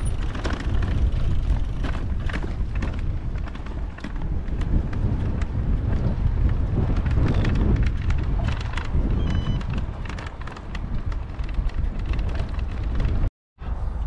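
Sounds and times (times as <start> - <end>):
bike clicks and rattles: 0.0 - 13.3
wind rumbling on microphone: 0.0 - 14.0.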